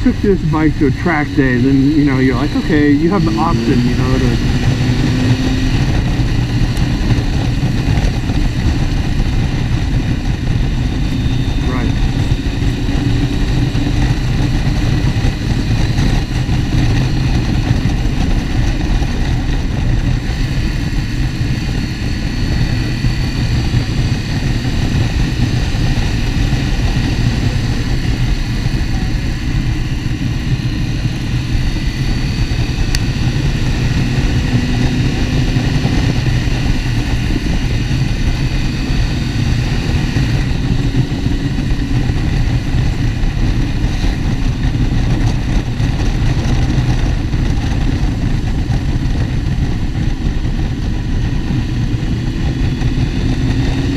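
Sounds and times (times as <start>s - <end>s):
motorcycle engine running: 0.0s - 53.9s
wind rumble: 0.0s - 53.9s.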